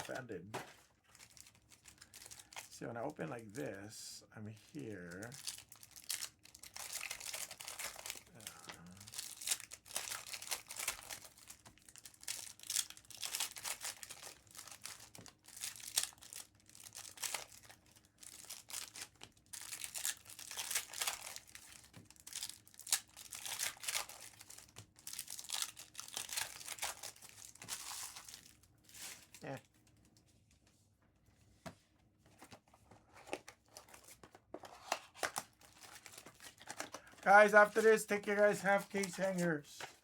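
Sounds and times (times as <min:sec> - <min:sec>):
card pack wrappers crinkling: 0:00.0 - 0:03.9, 0:04.5 - 0:30.2, 0:32.4 - 0:40.0.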